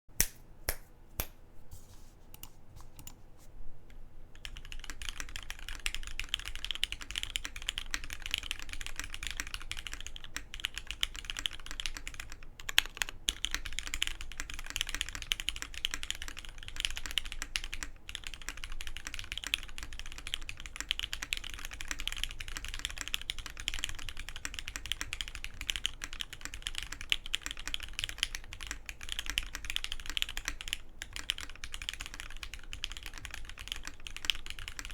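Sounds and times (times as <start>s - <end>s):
mechanical keyboard typing: 4.4s - 34.9s.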